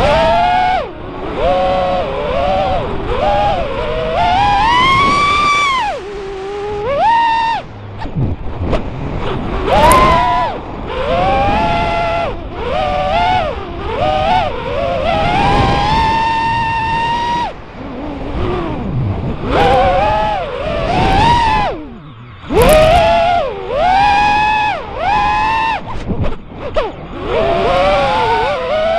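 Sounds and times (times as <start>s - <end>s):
quadcopter motor whine: 0.0s - 28.9s.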